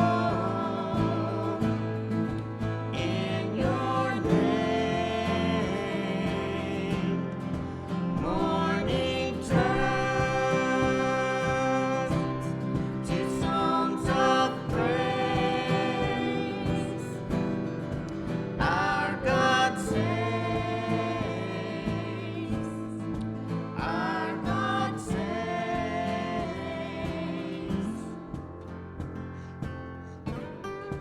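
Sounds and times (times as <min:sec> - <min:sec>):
voices singing held notes: 0:00.0 - 0:28.6.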